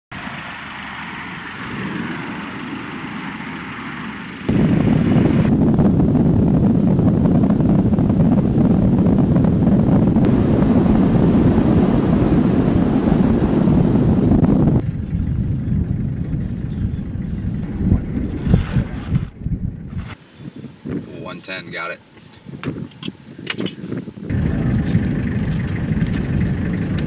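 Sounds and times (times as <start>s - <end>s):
vehicle driving fast: 0.1s - 19.4s, 24.3s - 27.0s
wind rumble on microphone: 1.4s - 27.0s.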